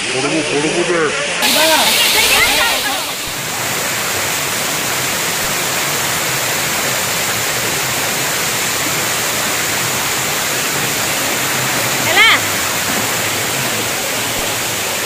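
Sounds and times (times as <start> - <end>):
waterfall rushing: 0.0 - 15.0
rocky stream flowing: 0.3 - 15.0.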